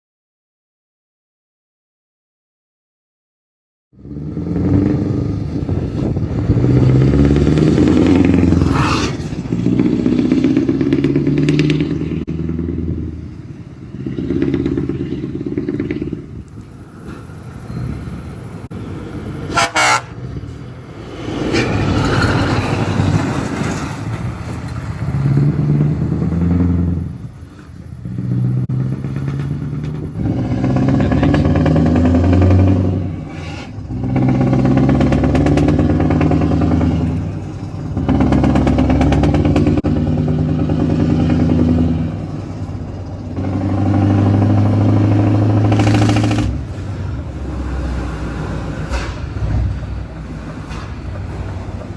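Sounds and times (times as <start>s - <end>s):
diesel truck engine accelerating: 3.9s - 51.9s.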